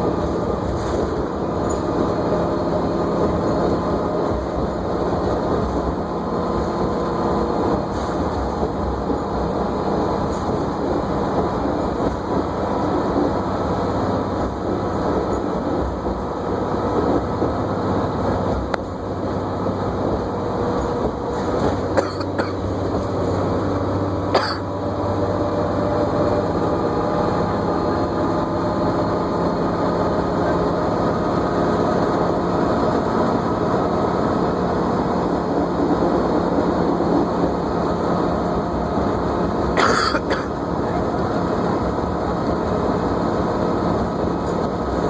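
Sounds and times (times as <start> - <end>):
bus drivetrain whine: 0.0 - 45.0
bus engine drone: 0.0 - 45.0.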